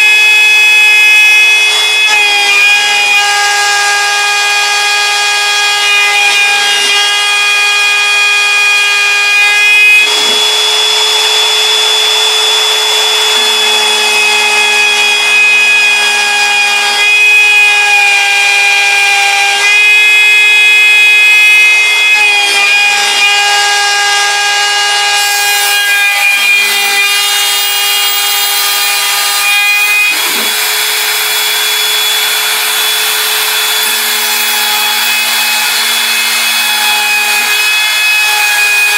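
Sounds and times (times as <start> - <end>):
router whine cutting board: 0.0 - 38.9.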